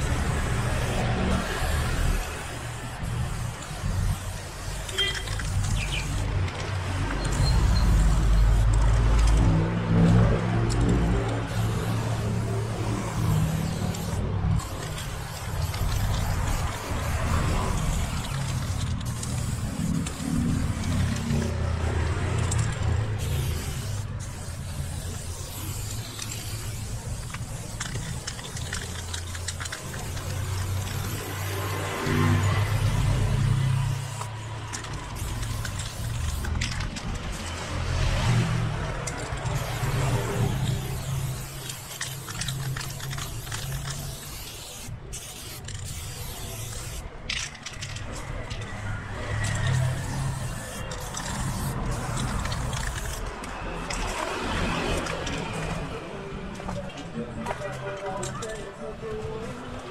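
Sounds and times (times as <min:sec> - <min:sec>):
spray paint can hissing: 0:00.0 - 0:58.7.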